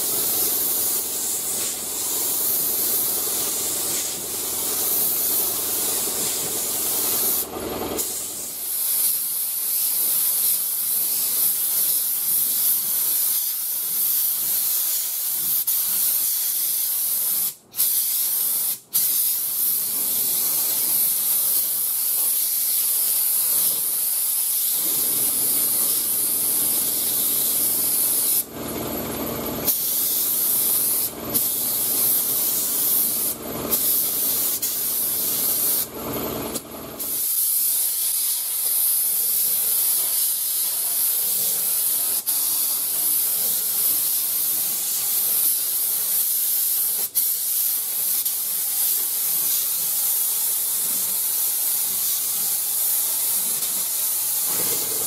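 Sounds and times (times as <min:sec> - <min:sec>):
spray gun hissing: 0:00.0 - 0:28.5, 0:29.6 - 0:35.9, 0:36.5 - 0:55.0.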